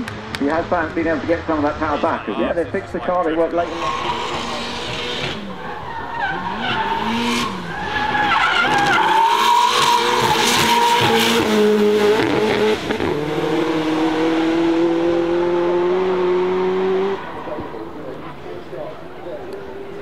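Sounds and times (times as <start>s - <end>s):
car engine revving: 3.5s - 20.0s.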